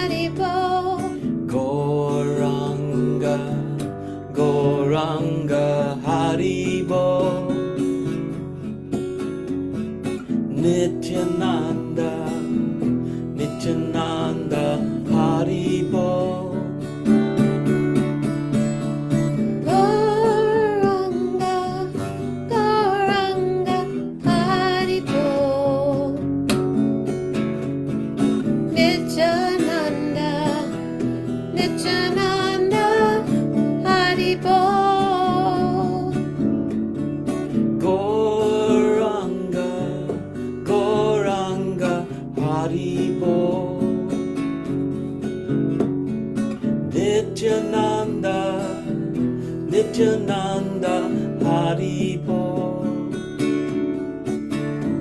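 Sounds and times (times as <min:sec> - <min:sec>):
strummed string accompaniment: 0:00.0 - 0:55.0.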